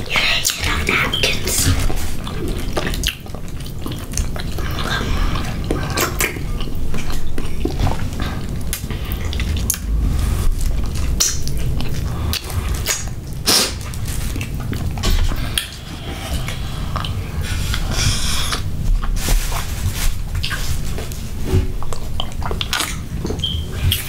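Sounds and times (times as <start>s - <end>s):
lip smacks: 0.3s - 19.2s, 21.8s - 24.0s.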